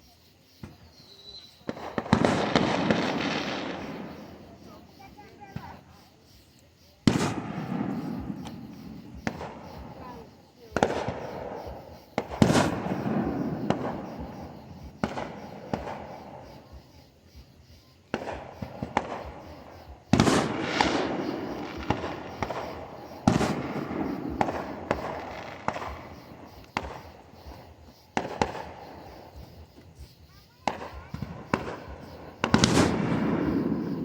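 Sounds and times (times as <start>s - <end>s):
fireworks bangs: 0.6s - 6.4s, 7.0s - 34.0s
sharp firework cracks: 1.6s - 5.9s, 7.0s - 16.7s, 18.0s - 30.0s, 30.6s - 34.0s.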